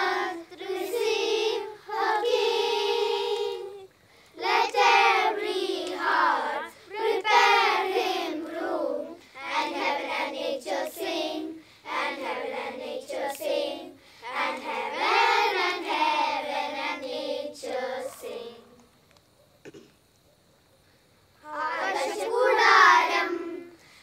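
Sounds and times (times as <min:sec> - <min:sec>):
children's choir singing a carol: 0:00.0 - 0:18.8, 0:21.4 - 0:23.8.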